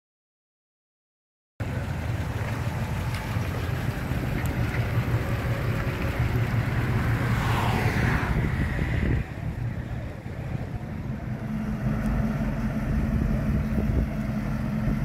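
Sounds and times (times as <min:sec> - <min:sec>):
pickup truck engine running: 0:01.6 - 0:15.0.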